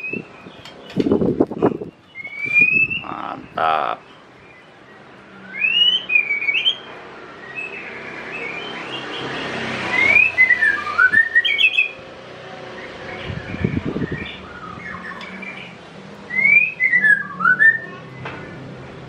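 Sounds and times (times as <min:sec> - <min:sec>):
bird singing clear whistles: 0:00.0 - 0:12.0, 0:12.8 - 0:18.6.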